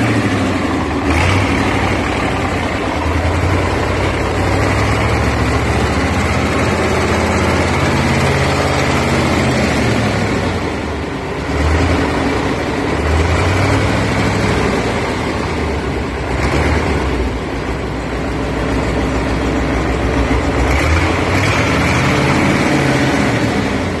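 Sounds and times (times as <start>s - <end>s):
diesel engine revving: 0.0s - 24.0s.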